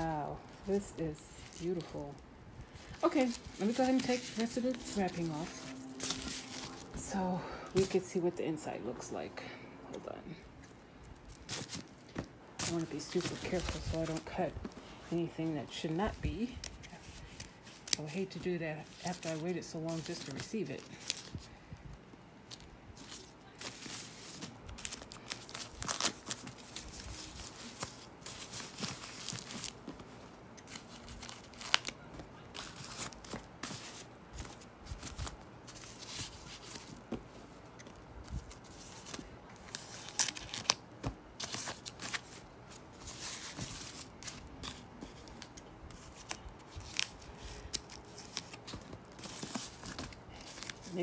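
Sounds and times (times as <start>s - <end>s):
packing wrap crinkling: 0.0s - 7.1s, 10.6s - 21.5s, 22.5s - 51.0s.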